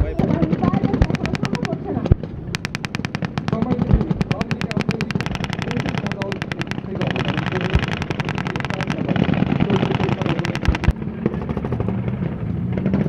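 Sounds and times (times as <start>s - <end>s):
steady low rumble: 0.0s - 12.6s
automatic gunfire bursts: 0.2s - 11.6s.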